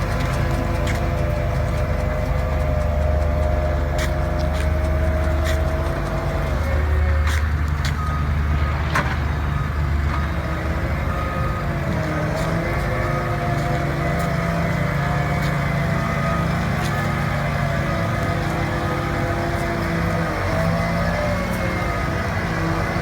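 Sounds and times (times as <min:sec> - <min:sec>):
diesel engine and hydraulics running: 0:00.0 - 0:23.0.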